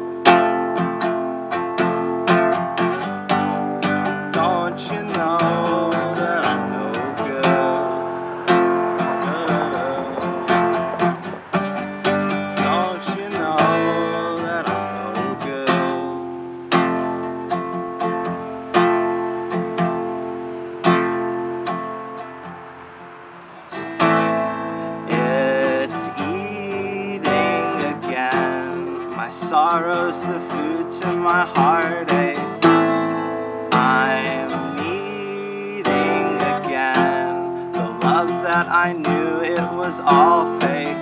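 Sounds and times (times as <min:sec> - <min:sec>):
acoustic guitar strummed chords: 0:00.0 - 0:41.0.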